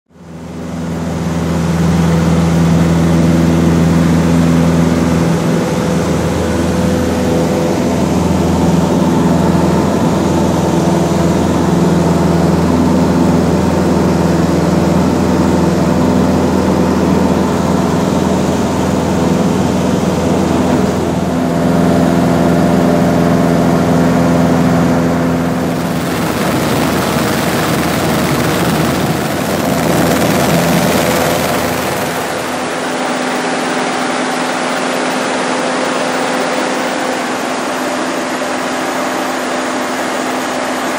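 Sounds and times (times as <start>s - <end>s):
propeller plane engine: 0.1s - 40.9s.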